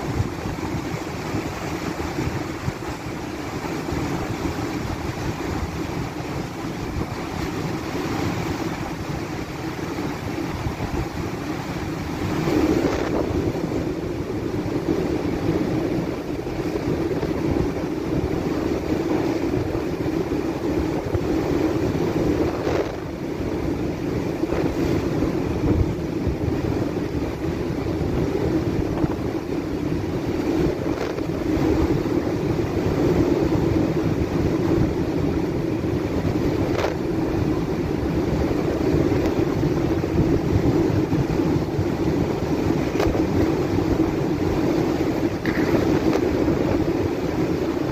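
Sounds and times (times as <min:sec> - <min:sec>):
heavy seas breaking against bow: 0:00.0 - 0:47.9
strong wind: 0:00.0 - 0:47.9
wind buffeting microphone: 0:00.0 - 0:47.9.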